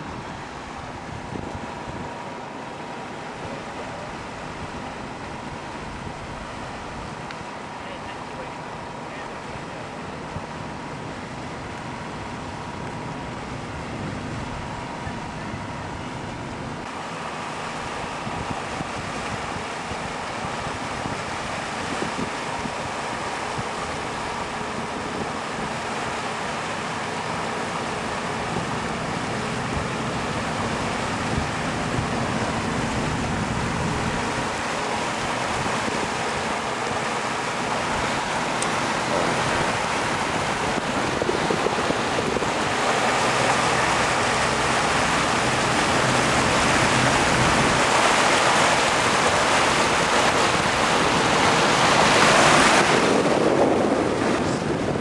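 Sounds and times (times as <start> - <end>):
wind rushing over microphone: 0.0 - 8.0, 8.8 - 55.0
boat wake churning: 0.0 - 55.0
motorboat engine: 0.0 - 55.0.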